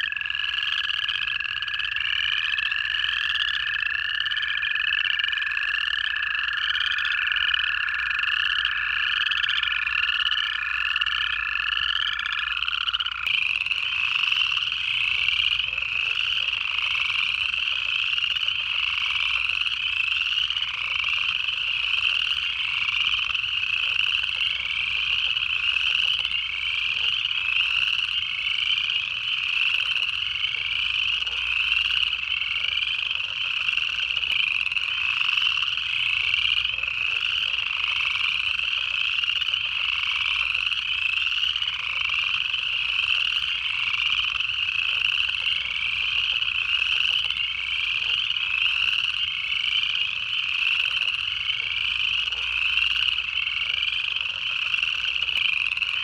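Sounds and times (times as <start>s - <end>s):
frogs trilling in chorus: 0.0s - 56.0s.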